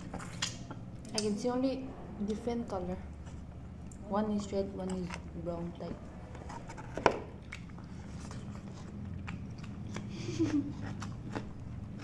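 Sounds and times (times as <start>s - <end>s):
people chewing food: 0.0s - 1.2s, 3.1s - 12.0s.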